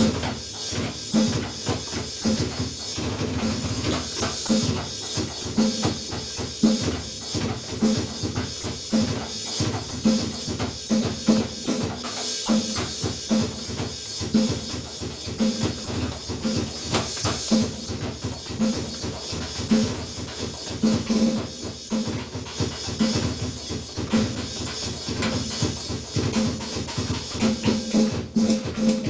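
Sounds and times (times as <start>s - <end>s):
cymbals washing: 0.0s - 29.0s
drum kit beat: 0.0s - 29.0s.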